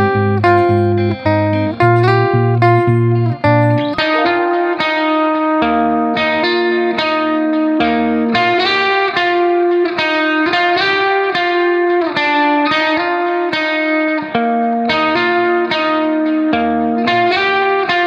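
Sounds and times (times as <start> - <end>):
guitar melody: 0.0 - 18.0.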